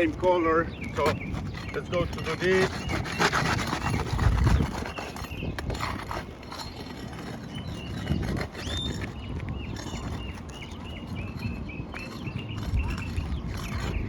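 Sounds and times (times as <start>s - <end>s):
tools scraping roof shingles: 0.0s - 14.0s
wind buffeting microphone: 0.0s - 14.0s.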